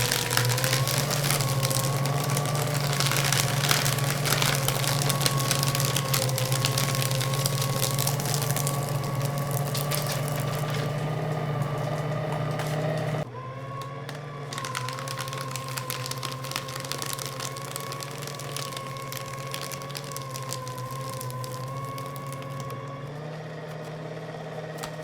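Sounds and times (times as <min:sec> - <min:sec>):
paper crackling through cutters: 0:00.0 - 0:25.0
paper shredder motor humming: 0:00.0 - 0:25.0.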